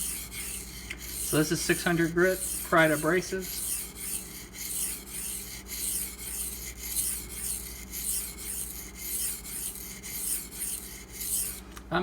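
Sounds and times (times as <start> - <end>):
knife scraping on sharpening stone: 0.0 - 11.6.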